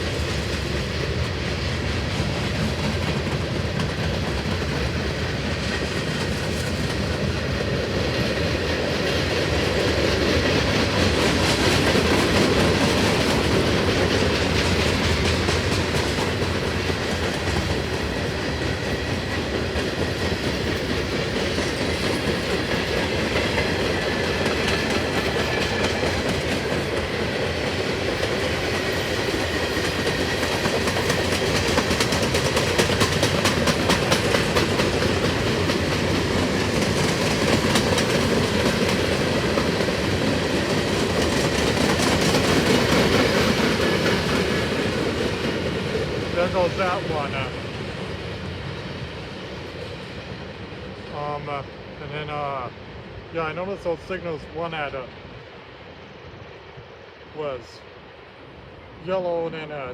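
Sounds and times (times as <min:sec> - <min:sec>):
freight train wheels clattering: 0:00.0 - 0:50.4.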